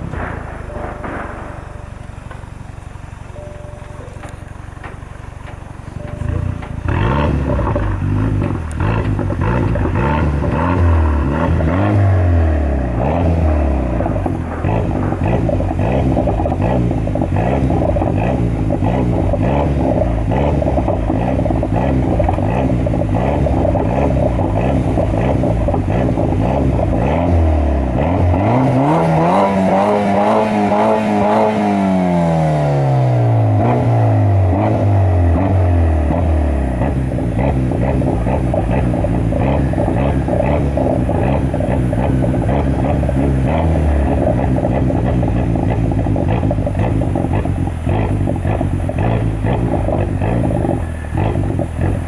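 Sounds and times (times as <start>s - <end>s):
car engine idling and revving: 0.0s - 52.0s.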